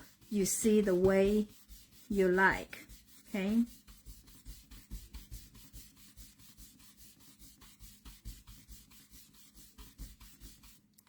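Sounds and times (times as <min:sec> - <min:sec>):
brush scratching on cardstock: 0:00.0 - 0:10.9.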